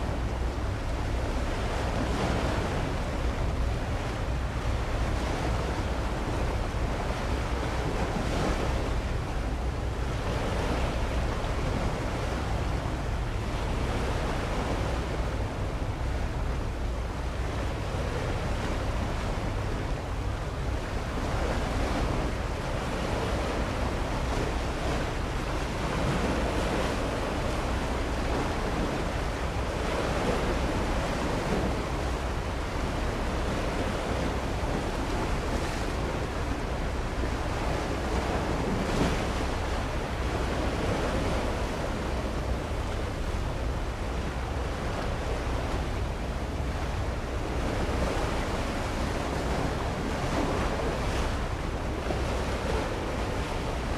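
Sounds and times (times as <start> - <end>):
sea water washing: 0.0 - 53.9.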